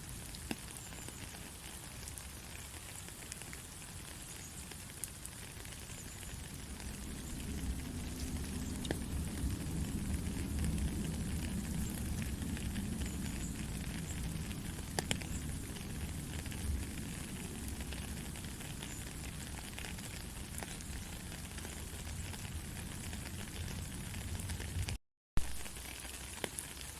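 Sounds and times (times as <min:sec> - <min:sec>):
gentle rain falling: 0:00.0 - 0:26.9
raindrop clicks: 0:00.2 - 0:26.9.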